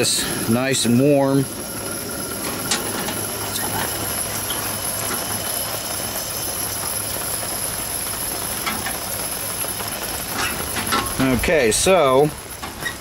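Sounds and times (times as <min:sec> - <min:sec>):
camp stove hissing: 0:00.0 - 0:13.0
rain falling: 0:00.0 - 0:13.0.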